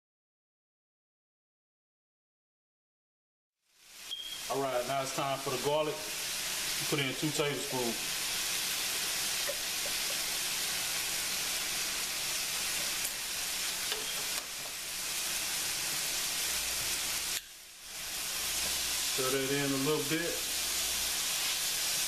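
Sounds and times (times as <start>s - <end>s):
vegetables sizzling in skillet: 3.6s - 22.0s.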